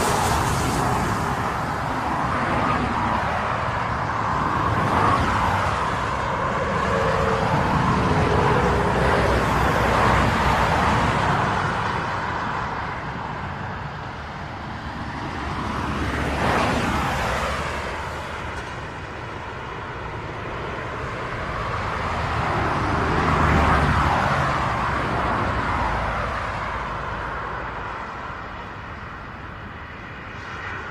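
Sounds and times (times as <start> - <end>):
cars passing on highway: 0.0 - 30.9.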